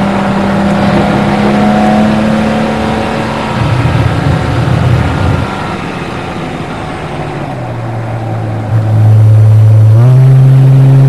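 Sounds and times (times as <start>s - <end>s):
car engine pulling: 0.0s - 11.0s.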